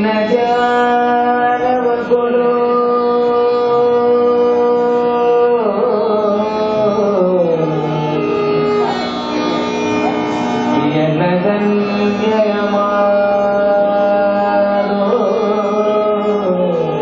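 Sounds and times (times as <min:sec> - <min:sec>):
man singing ornamented phrases: 0:00.0 - 0:09.8, 0:10.7 - 0:17.0
steady drone: 0:00.0 - 0:17.0.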